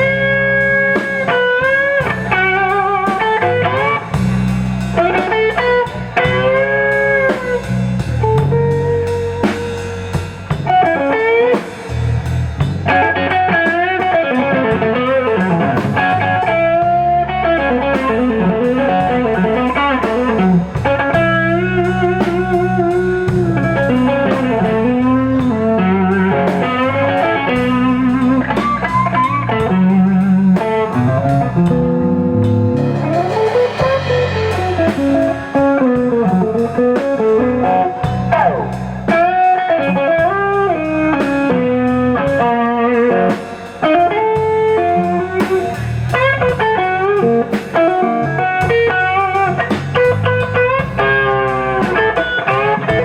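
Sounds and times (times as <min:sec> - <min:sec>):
bass guitar: 0:00.0 - 0:53.0
drums: 0:00.0 - 0:53.0
lead electric guitar bent notes: 0:00.0 - 0:53.0.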